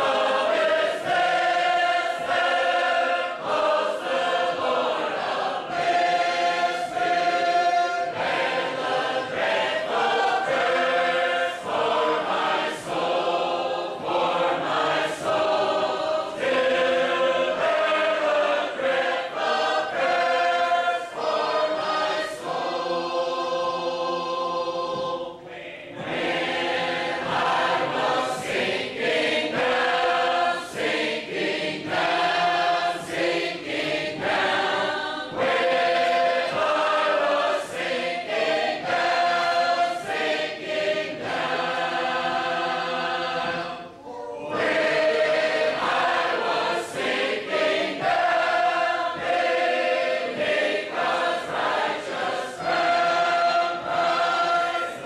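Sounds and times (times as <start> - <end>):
group singing in harmony: 0.0 - 55.0.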